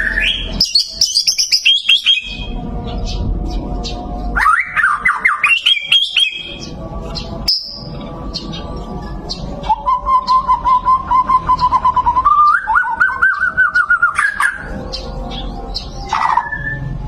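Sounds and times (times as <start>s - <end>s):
bird chirps: 0.0s - 17.0s
bird singing repeated notes: 0.0s - 17.0s.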